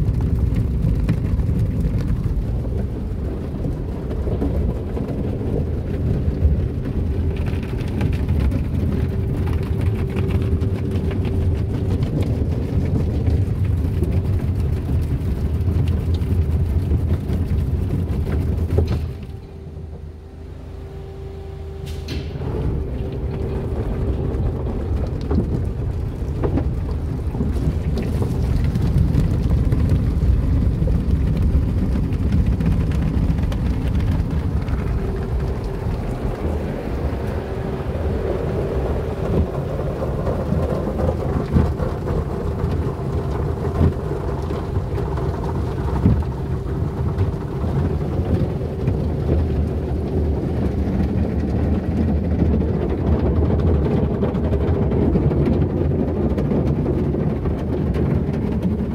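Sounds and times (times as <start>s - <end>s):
machine hum: 0.0s - 58.9s.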